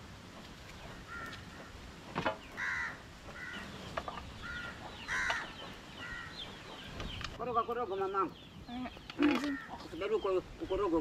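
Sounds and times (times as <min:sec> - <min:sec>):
bird's harsh calls: 0:00.7 - 0:11.0.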